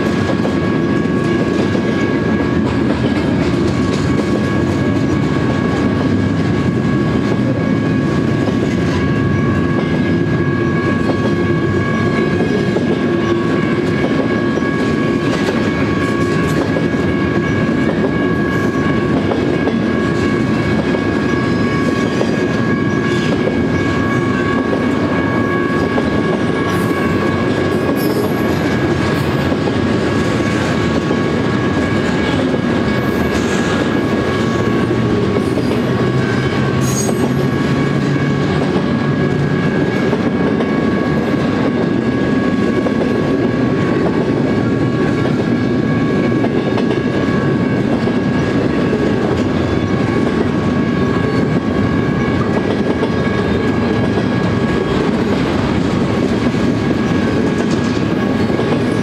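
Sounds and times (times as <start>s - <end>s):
train wheels rumbling on rail: 0.0s - 59.0s
high ringing tones: 0.5s - 56.3s.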